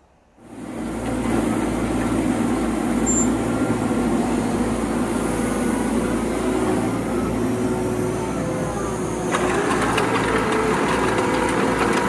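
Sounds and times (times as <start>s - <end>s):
excavator diesel engine running: 0.4s - 12.0s.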